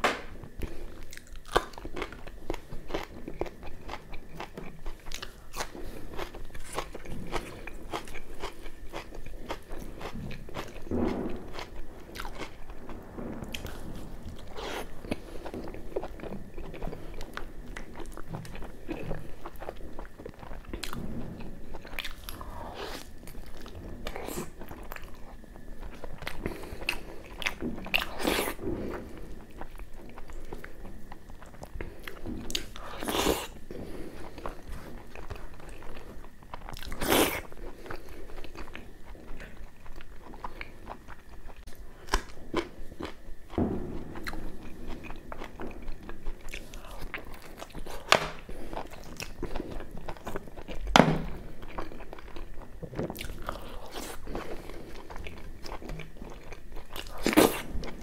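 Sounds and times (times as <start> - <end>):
chewing with wet mouth sounds: 0.6 - 58.0.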